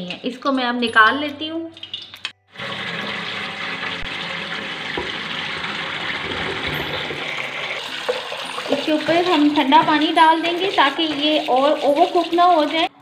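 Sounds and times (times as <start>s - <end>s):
water pouring into a colander: 2.6s - 13.0s.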